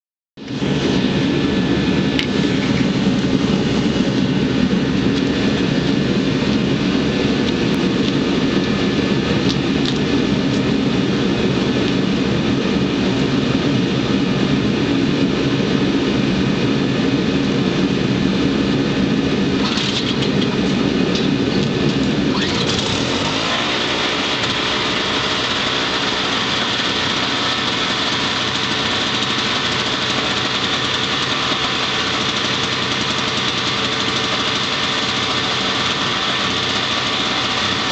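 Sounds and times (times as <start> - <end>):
snowblower engine running: 0.4 - 37.9.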